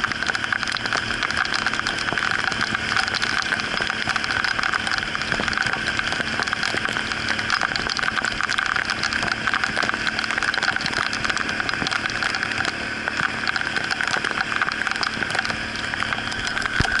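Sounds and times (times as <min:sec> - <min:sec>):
outboard motor running: 0:00.0 - 0:17.0
rain hitting boat: 0:00.0 - 0:17.0.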